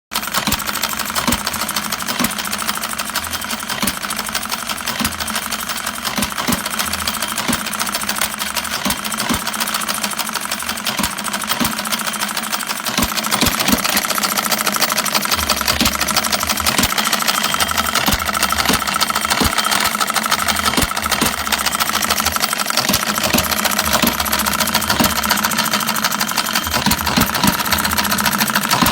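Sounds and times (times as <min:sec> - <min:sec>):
model engine clattering: 0:00.2 - 0:28.9.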